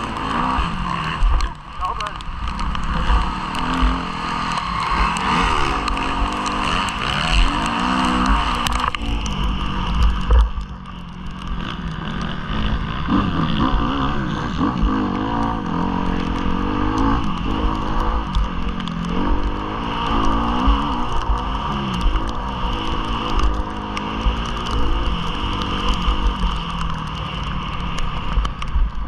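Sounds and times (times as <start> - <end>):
motorbike engine revving: 0.0 - 28.9
wind rumble on microphone: 0.0 - 29.0.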